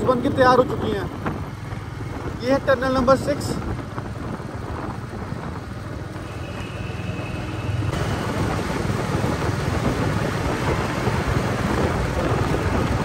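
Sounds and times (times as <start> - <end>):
motorcycle rumbling in tunnel: 0.0 - 13.0.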